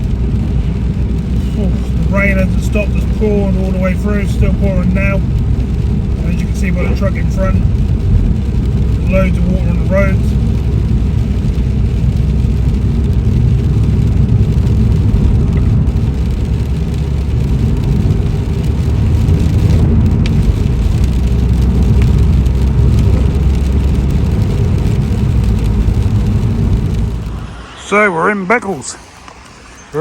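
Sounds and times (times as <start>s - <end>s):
car engine and tyres rumbling: 0.0s - 30.0s
rain on car: 0.0s - 30.0s.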